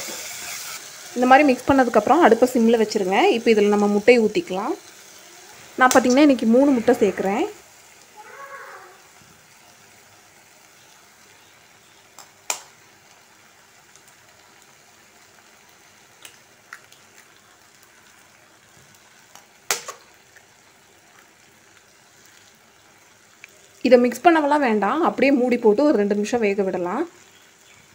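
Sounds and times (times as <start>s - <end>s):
masala sizzling in a pan: 0.0s - 27.9s.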